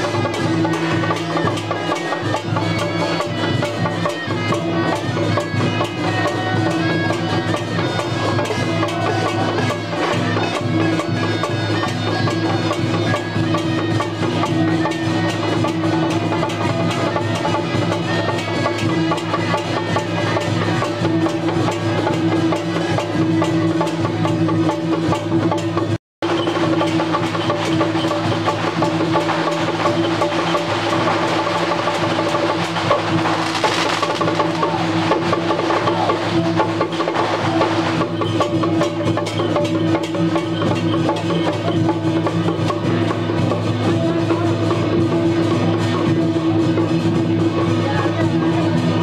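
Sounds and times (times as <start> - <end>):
wood-block clacks: 0.0 - 46.2
held pitched instruments: 0.0 - 48.6
drums: 0.0 - 49.0.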